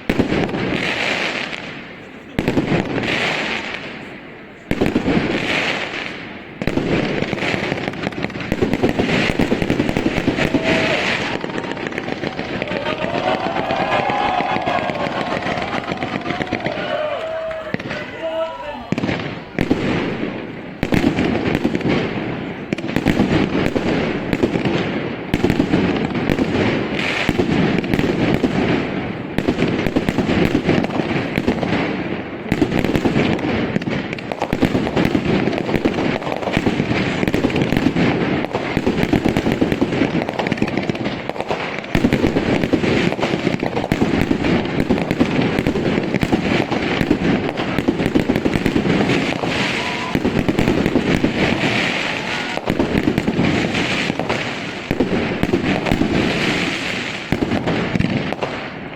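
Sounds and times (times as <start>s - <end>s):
fireworks bursting: 0.0s - 58.9s
fireworks crackling: 0.0s - 58.9s.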